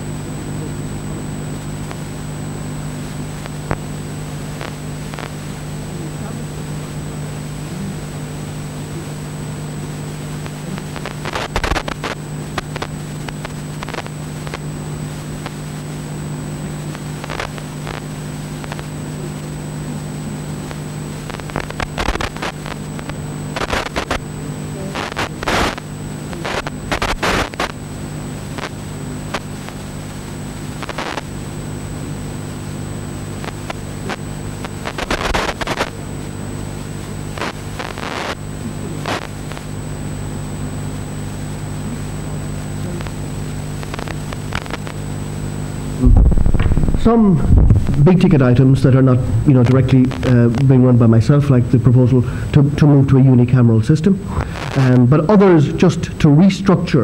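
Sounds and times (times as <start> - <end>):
low electrical hum: 0.0 - 57.0
thin high whine: 7.8 - 56.8.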